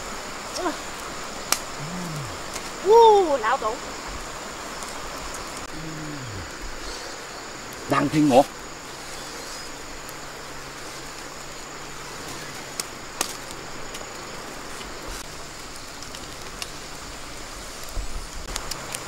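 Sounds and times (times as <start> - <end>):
fire popping: 0.0 - 19.0
steady hiss: 0.0 - 19.0
wood fire crackling: 0.0 - 19.0.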